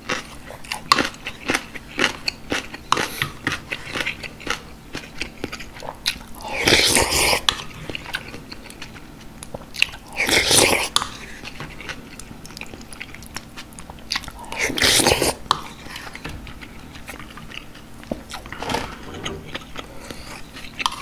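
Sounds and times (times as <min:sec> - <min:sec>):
wet chewing and mouth clicks: 0:00.0 - 0:18.5.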